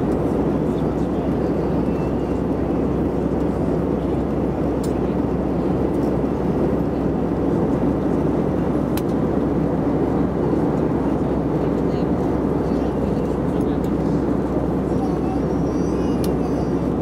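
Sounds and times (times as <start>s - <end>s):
aircraft cabin engine and air rush: 0.0s - 17.0s.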